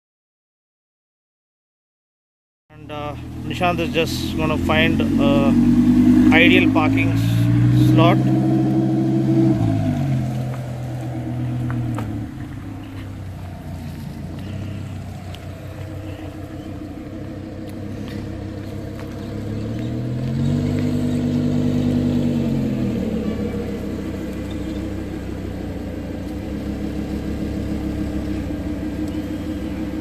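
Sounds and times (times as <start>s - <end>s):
sports car engine at low speed: 2.7s - 30.0s.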